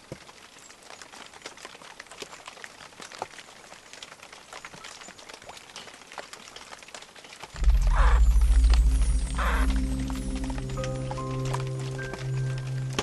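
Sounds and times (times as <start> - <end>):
raindrops pattering: 0.0 - 13.0.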